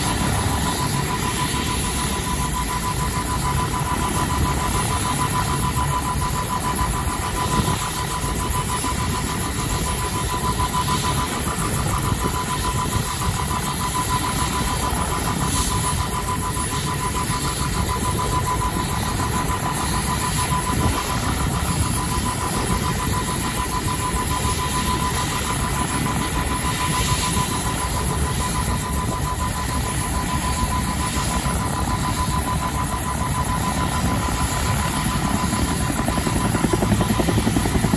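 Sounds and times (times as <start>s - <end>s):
helicopter rotor turning: 0.0s - 37.9s
helicopter turbine engine whine: 0.0s - 37.9s.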